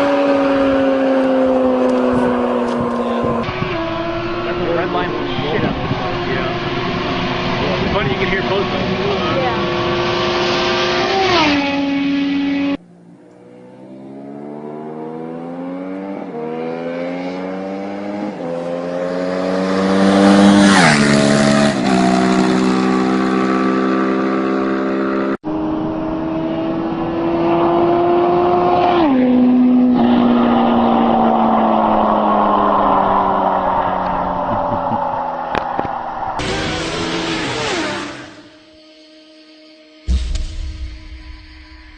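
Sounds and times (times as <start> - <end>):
motorbike engine accelerating: 0.0 - 38.8.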